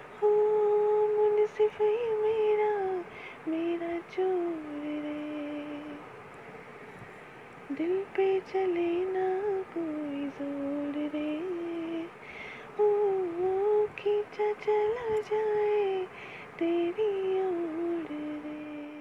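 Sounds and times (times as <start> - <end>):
woman singing unaccompanied: 0.0 - 6.1, 7.7 - 19.0.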